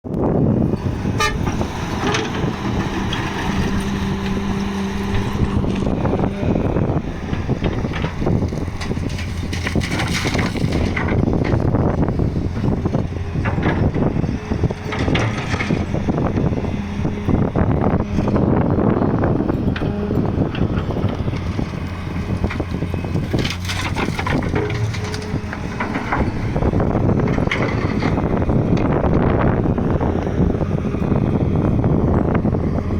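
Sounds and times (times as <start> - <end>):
diesel excavator engine working: 0.1 - 32.9.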